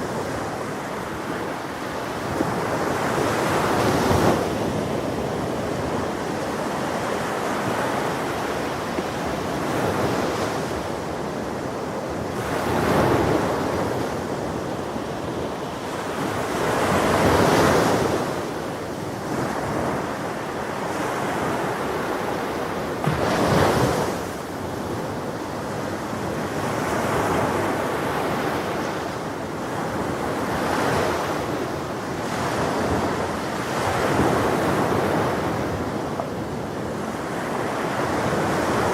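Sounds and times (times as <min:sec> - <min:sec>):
ocean waves breaking: 0:00.0 - 0:38.9
wind on microphone: 0:00.0 - 0:38.9.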